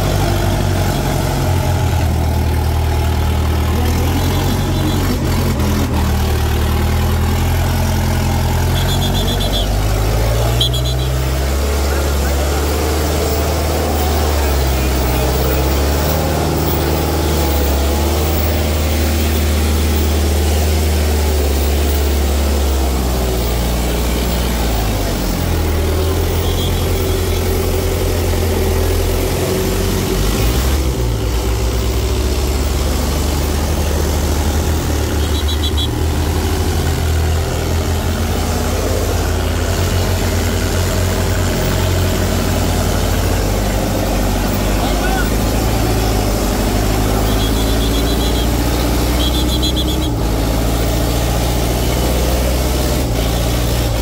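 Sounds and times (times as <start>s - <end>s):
diesel tractor engines droning: 0.0s - 54.0s.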